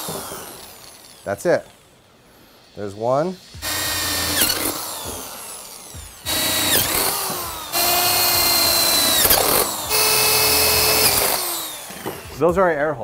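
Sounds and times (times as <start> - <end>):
power drill drilling into metal: 0.0 - 1.9, 3.6 - 12.4.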